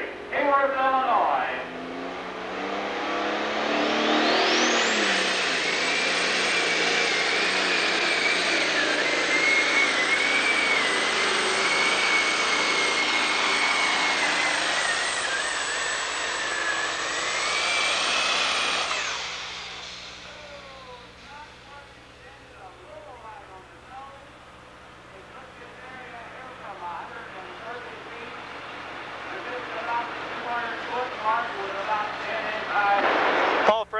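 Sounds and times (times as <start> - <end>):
diesel engine at full throttle: 0.0 - 33.8
high turbo whine: 0.0 - 33.9.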